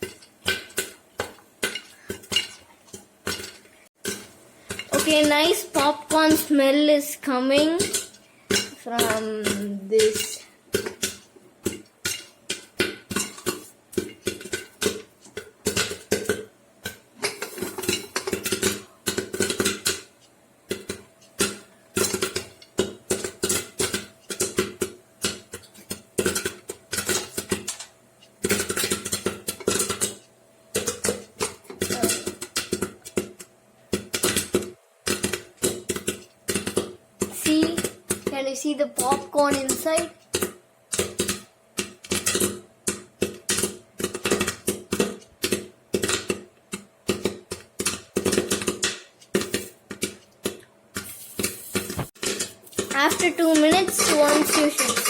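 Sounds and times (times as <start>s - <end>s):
popcorn popping against metal lid: 0.0s - 55.0s.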